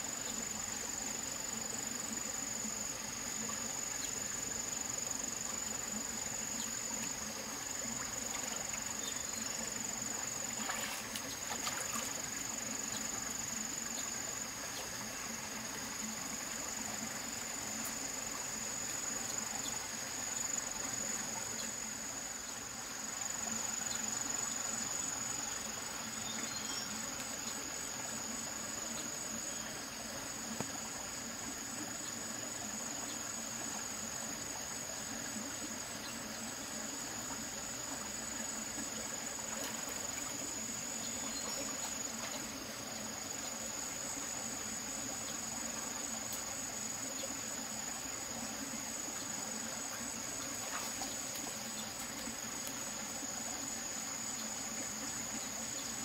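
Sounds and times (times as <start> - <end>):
background hiss: 0.0 - 56.0
crickets trilling: 0.0 - 56.0.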